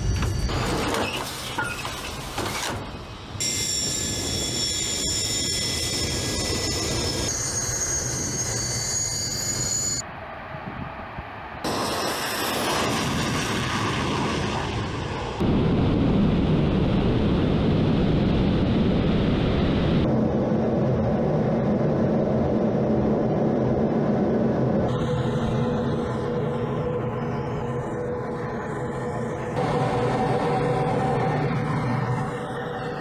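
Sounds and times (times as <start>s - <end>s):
jet engines roaring: 3.1s - 33.0s.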